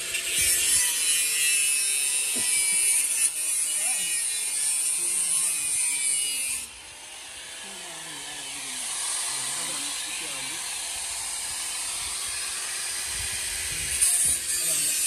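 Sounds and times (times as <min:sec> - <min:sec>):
power tool high-pitched whir: 0:00.0 - 0:15.0.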